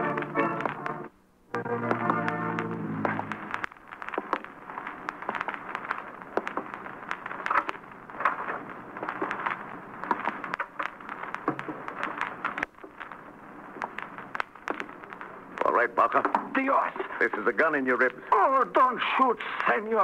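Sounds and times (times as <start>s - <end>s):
sharp clicks: 0.0s - 16.7s
old recording crackle and hiss: 0.0s - 20.0s.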